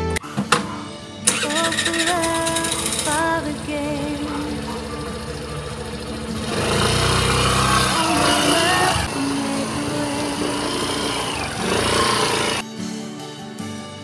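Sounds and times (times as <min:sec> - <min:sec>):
background music: 0:00.0 - 0:14.0
motor scooter engine pulling away: 0:01.2 - 0:12.6.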